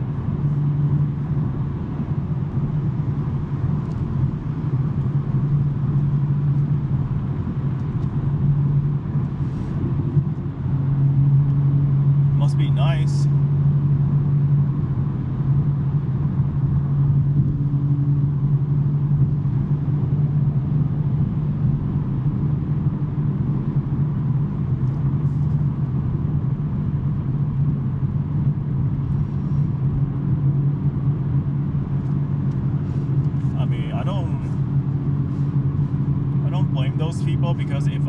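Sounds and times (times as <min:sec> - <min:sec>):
car engine cruising drone: 0:00.0 - 0:38.0.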